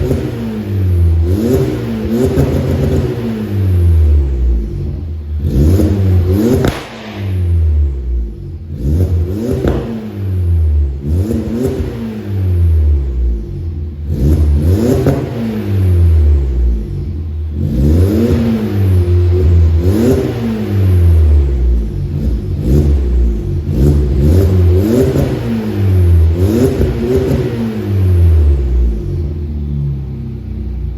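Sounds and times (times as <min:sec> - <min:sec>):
car engine revving in blips: 0:00.0 - 0:30.9.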